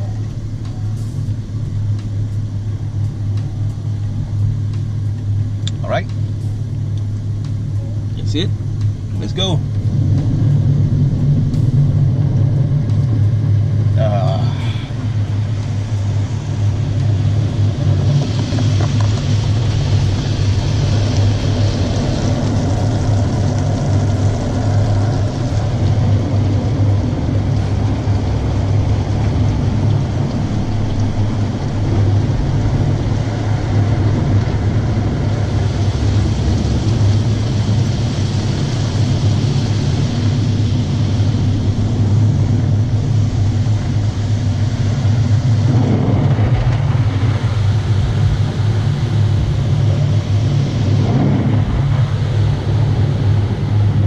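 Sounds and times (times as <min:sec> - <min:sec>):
car wash low hum: 0:00.0 - 0:54.0
water spray and brushes rushing: 0:09.2 - 0:54.0.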